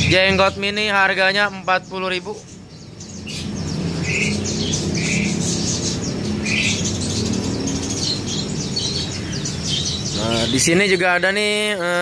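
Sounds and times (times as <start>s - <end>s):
squawky bird calls: 0.0s - 11.9s
songbirds chirping: 0.0s - 12.0s.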